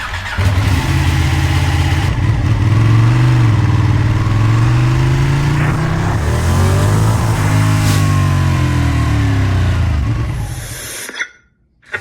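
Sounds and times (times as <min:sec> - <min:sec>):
motorcycle engine running: 0:00.1 - 0:10.8.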